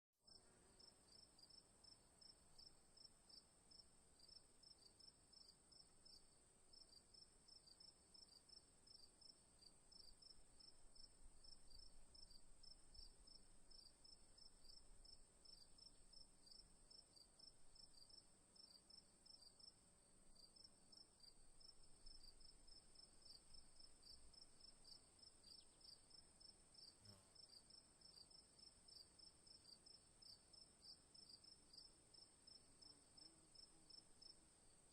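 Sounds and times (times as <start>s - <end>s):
crickets chirping: 0.3s - 34.9s.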